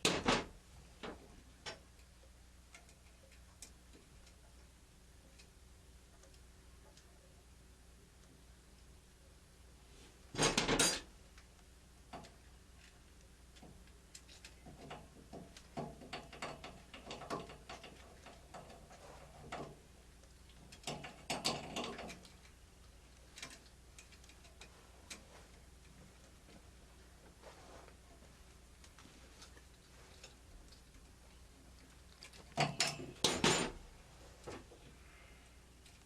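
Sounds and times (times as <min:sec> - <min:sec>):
clicks and rattles of wiring work: 0:00.0 - 0:07.1, 0:10.3 - 0:35.0, 0:35.7 - 0:36.0.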